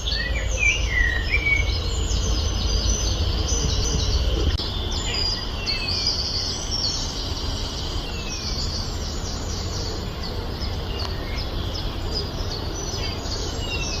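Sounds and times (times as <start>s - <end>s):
birds chirping: 0.0s - 14.0s
low background rumble: 0.0s - 14.0s.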